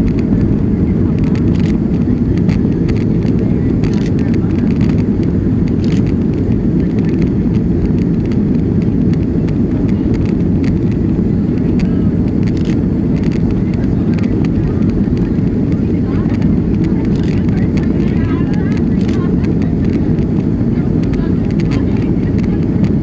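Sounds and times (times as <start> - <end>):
jet engine roar in cabin: 0.0 - 23.0.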